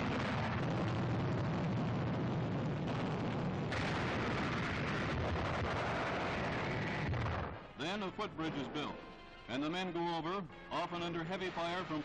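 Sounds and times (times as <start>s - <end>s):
shell and mortar explosions: 0.0s - 12.0s.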